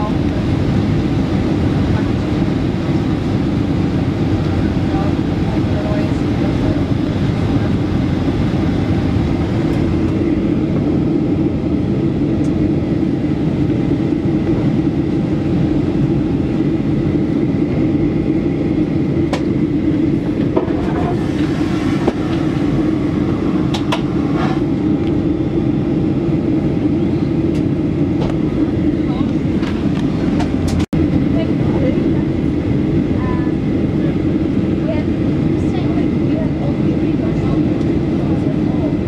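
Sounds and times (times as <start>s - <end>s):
jet engines and airflow roar: 0.0s - 39.0s
low hum: 0.0s - 39.0s.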